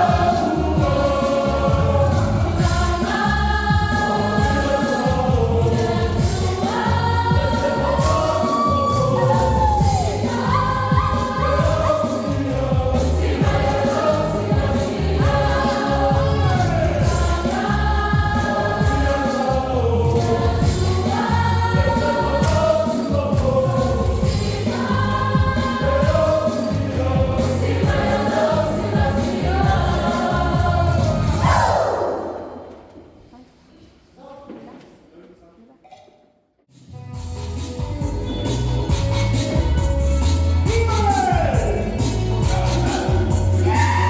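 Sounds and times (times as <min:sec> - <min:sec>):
steady low beat: 0:00.0 - 0:31.5, 0:37.8 - 0:44.0
choral singing: 0:00.0 - 0:33.1, 0:38.4 - 0:44.0.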